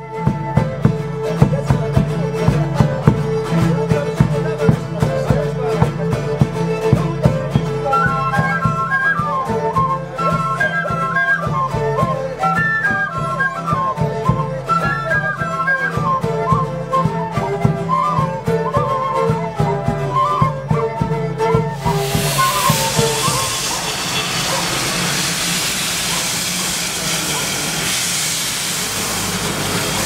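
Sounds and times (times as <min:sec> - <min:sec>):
flute melody: 0:00.0 - 0:30.0
folk band playing: 0:00.0 - 0:30.0
steady drumbeat: 0:00.1 - 0:10.4, 0:11.5 - 0:30.0.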